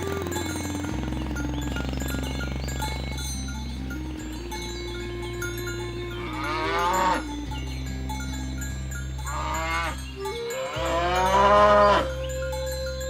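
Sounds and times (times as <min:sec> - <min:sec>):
cattle mooing: 0:00.0 - 0:07.4, 0:08.9 - 0:12.3
background music: 0:00.0 - 0:13.0.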